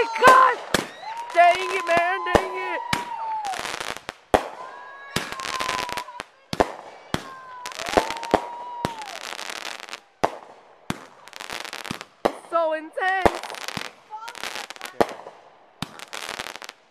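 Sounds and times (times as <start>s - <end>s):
fireworks bangs: 0.0s - 16.9s
fireworks crackling: 0.0s - 16.9s.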